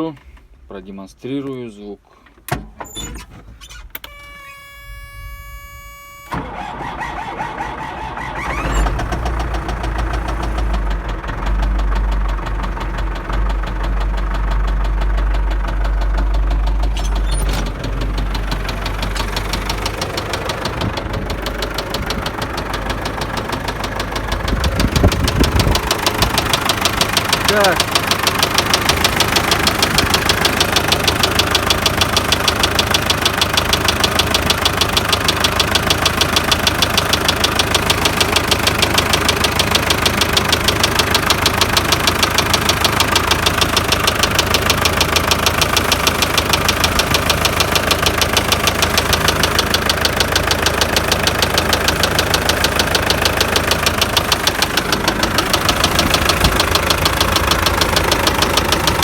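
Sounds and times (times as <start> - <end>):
tractor diesel engine idling: 5.0 - 59.0
rapid engine knocking: 9.1 - 59.0.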